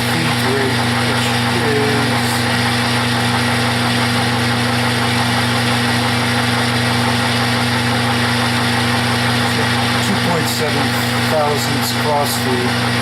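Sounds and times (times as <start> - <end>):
metal lathe running: 0.0 - 13.0.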